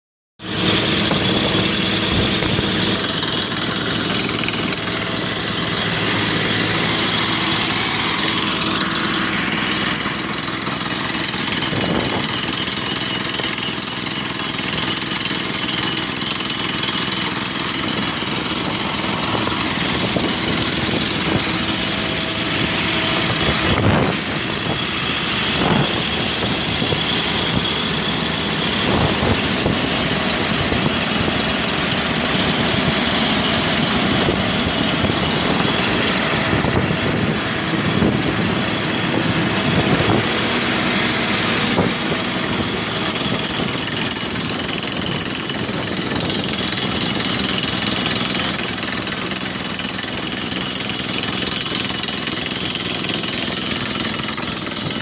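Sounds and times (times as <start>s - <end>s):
engine running: 0.4s - 55.0s
rock drill working: 0.4s - 55.0s.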